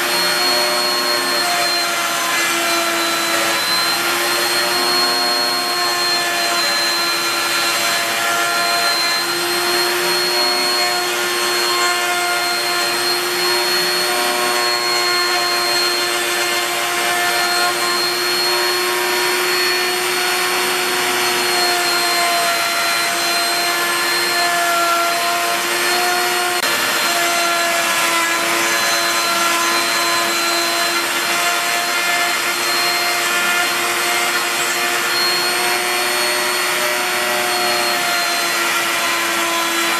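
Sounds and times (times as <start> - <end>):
wood router motor whine: 0.0 - 39.9.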